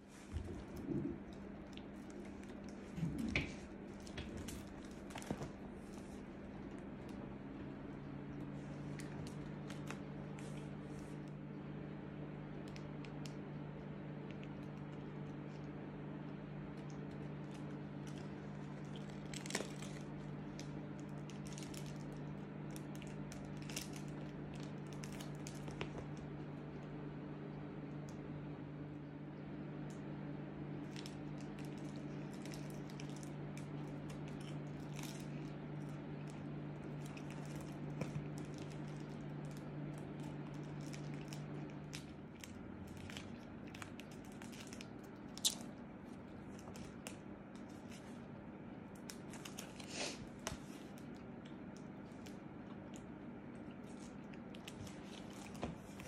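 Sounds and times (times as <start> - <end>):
low electrical hum: 0.0 - 56.0
photo album pages crinkling: 0.1 - 11.4, 16.6 - 26.8, 30.8 - 56.0.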